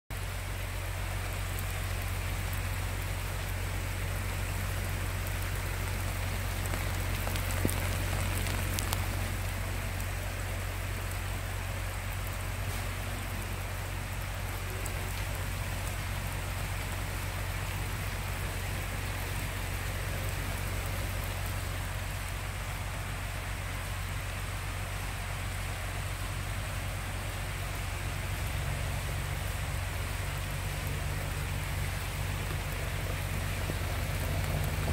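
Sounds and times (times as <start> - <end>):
heavy rain on plants: 0.1 - 34.9.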